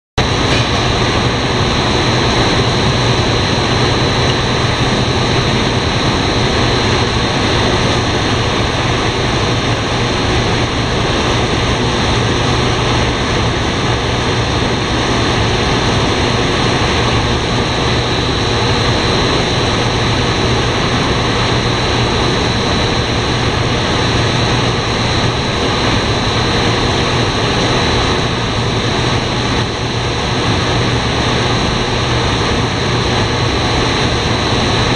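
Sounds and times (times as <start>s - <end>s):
machine drone with low hum: 0.2s - 34.9s.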